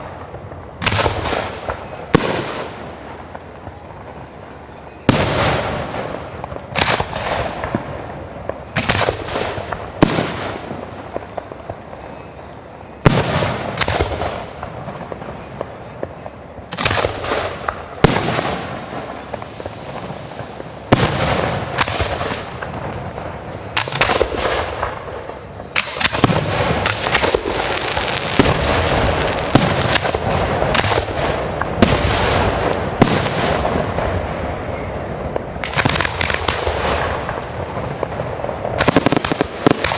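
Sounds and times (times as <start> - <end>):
crackling firework tails: 0.0 - 39.9.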